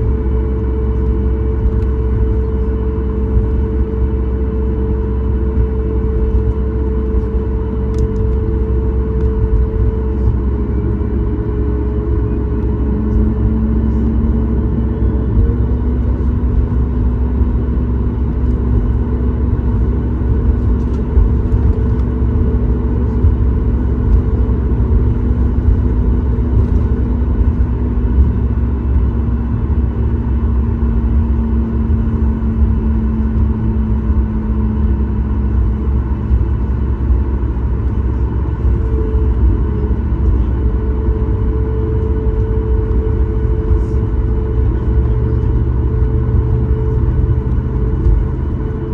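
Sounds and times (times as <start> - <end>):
aircraft cabin rumble: 0.0 - 48.9
engine humming tones: 0.0 - 48.9.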